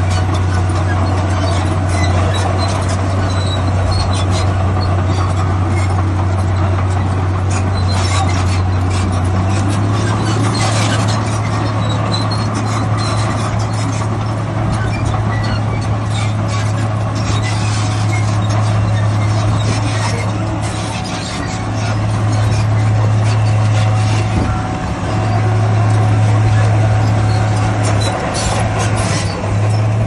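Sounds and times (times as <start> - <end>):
heavy diesel machinery running: 0.0 - 30.0
metallic squeaks and clanks: 0.0 - 30.0.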